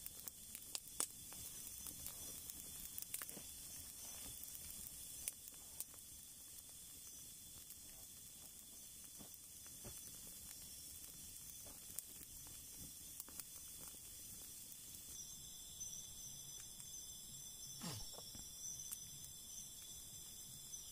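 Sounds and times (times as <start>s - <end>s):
campfire crackling and popping: 0.0s - 20.9s
crickets chirring: 0.0s - 20.9s.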